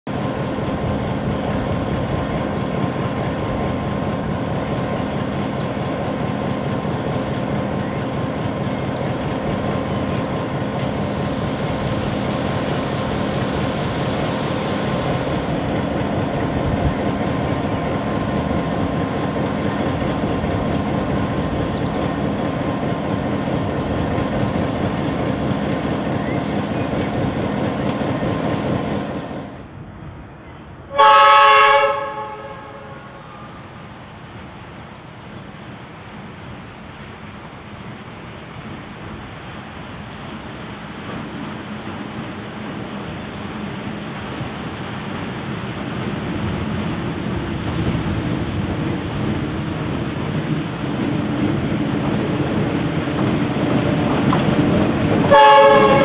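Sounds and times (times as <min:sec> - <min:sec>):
diesel locomotive idling: 0:00.1 - 0:56.0.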